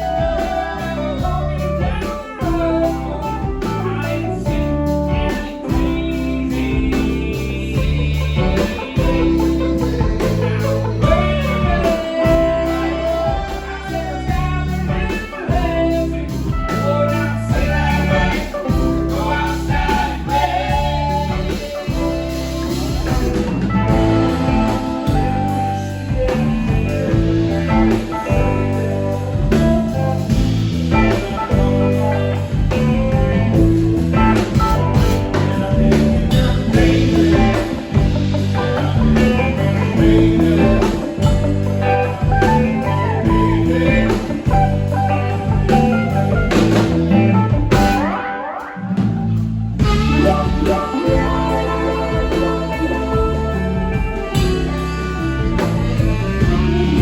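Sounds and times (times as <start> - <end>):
person singing: 0.0 - 49.0, 49.8 - 57.0
bass: 0.0 - 57.0
drums: 0.0 - 57.0
electric guitar lines: 0.0 - 57.0.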